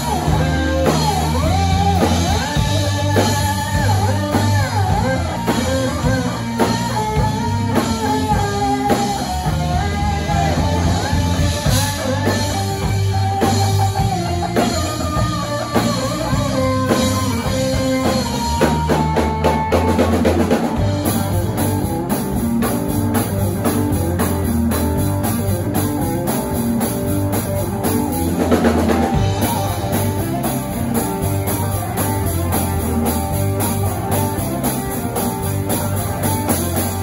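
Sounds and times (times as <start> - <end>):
bass guitar: 0.0 - 37.0
drum kit beat: 0.0 - 37.0
electric guitar: 0.0 - 37.0.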